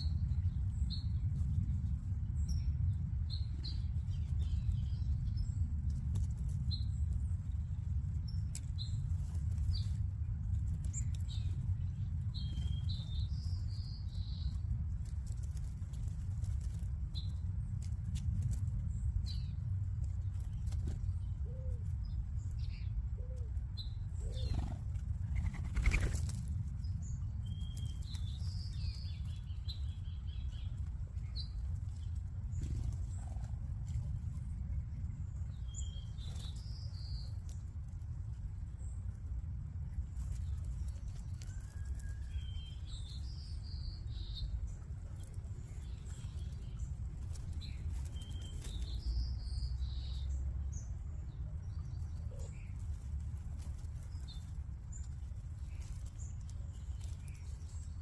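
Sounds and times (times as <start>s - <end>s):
small birds chirping: 0.0s - 58.0s
steady low rumble: 0.0s - 58.0s.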